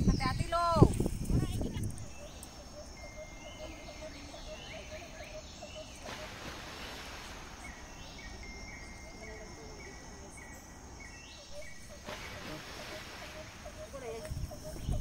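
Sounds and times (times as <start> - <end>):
high-pitched wildlife chirping: 0.0 - 15.0.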